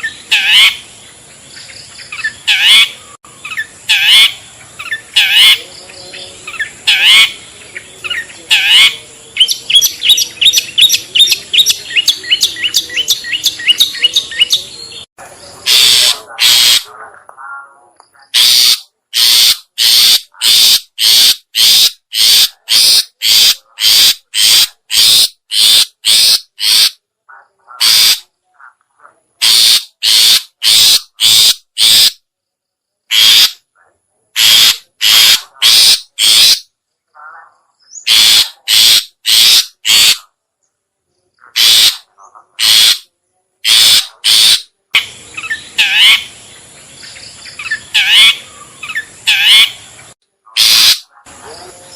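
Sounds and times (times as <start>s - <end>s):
bird giving harsh calls: 0.0s - 17.0s, 18.2s - 27.0s, 27.7s - 28.3s, 29.4s - 32.2s, 33.1s - 33.7s, 34.4s - 36.7s, 37.9s - 40.3s, 41.4s - 51.6s.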